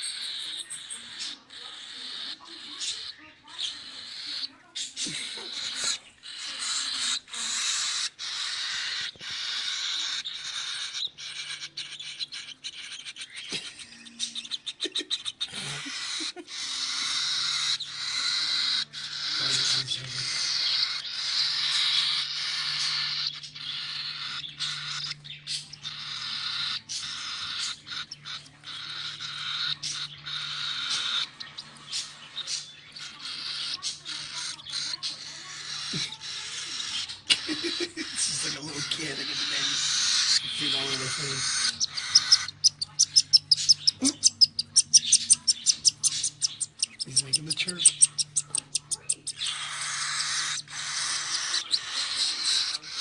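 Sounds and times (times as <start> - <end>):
chicks hissing begging calls: 0.0 - 53.0.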